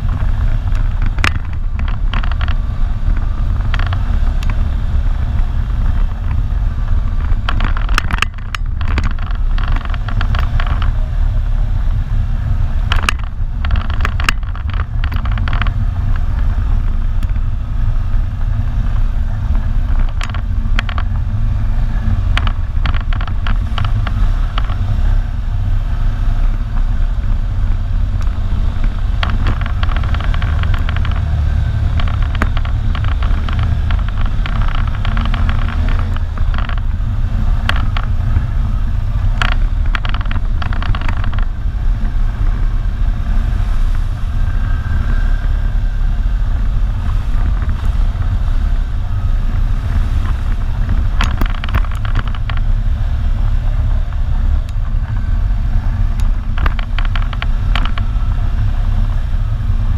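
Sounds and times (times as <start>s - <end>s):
atv engine running: 0.0s - 59.9s
rattling and clatter: 0.0s - 59.9s.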